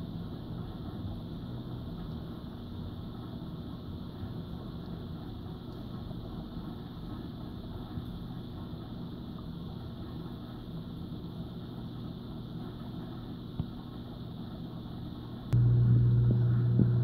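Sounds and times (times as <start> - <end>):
aquarium pump hum: 0.0 - 17.0.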